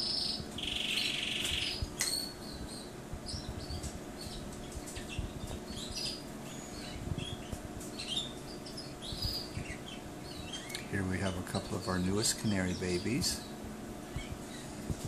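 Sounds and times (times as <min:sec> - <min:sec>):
canaries chirping: 0:00.0 - 0:13.5
canary buzzy trill: 0:00.0 - 0:14.9.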